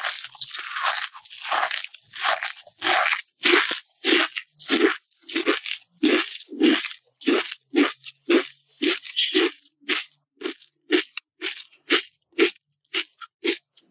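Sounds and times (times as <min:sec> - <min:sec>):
chewing crunchy food: 0:00.0 - 0:13.9.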